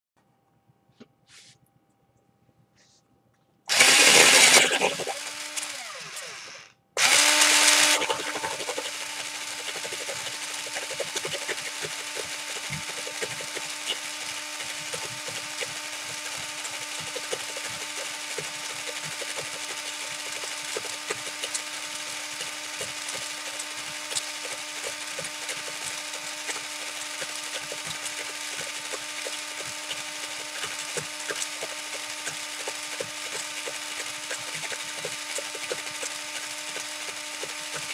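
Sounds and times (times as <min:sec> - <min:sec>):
electric pencil sharpener motor: 0:03.7 - 0:37.9
pencil wood being shaved: 0:03.7 - 0:37.9.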